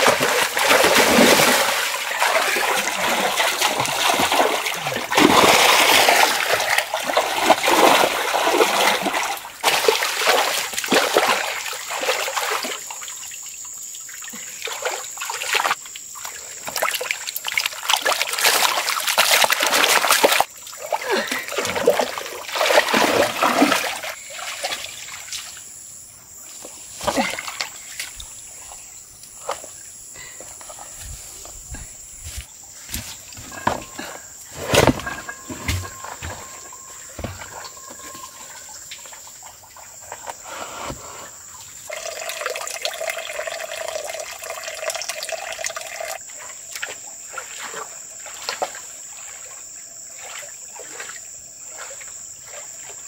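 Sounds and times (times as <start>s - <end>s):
splashing of pond water: 0.0s - 25.7s, 26.6s - 28.7s, 32.8s - 40.4s, 41.5s - 53.0s
water trickling: 0.0s - 31.0s, 32.6s - 40.5s, 41.1s - 53.0s.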